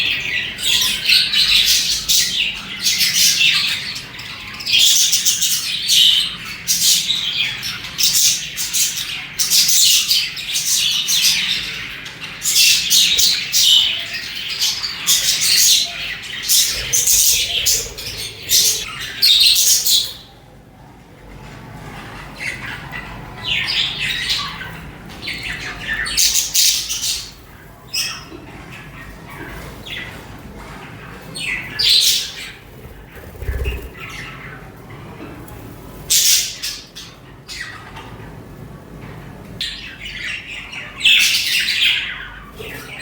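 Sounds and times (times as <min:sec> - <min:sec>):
budgerigars chirping and chattering: 0:00.0 - 0:20.3, 0:21.9 - 0:30.3, 0:31.0 - 0:34.8, 0:35.9 - 0:38.1, 0:39.6 - 0:43.0.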